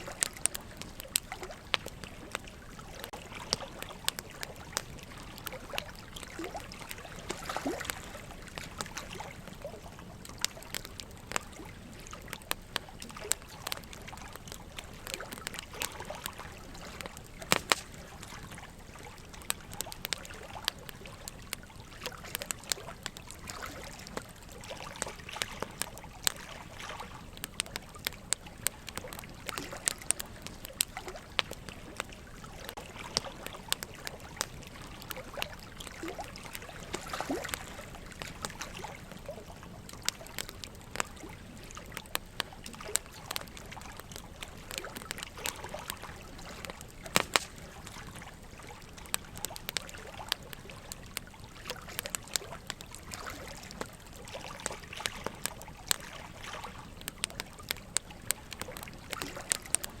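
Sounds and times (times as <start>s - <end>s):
running water trickling: 0.0s - 60.0s
wood fire crackling and popping: 0.0s - 60.0s.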